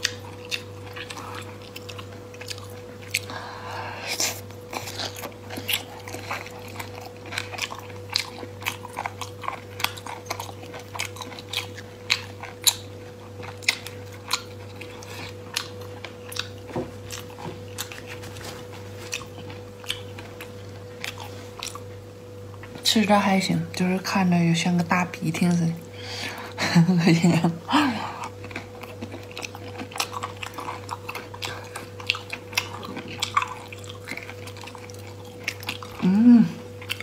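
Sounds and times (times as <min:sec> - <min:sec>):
person chewing with mouth clicks: 0:00.0 - 0:22.8, 0:28.1 - 0:37.0
faint steady hum: 0:00.0 - 0:37.0.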